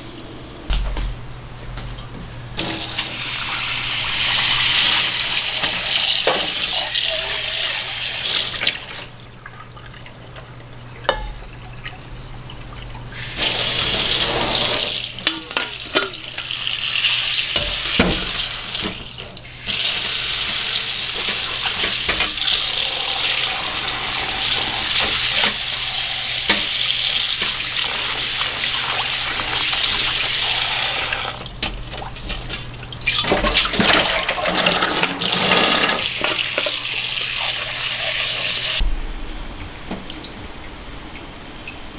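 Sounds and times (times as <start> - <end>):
tap water running into sink: 0.0 - 38.9.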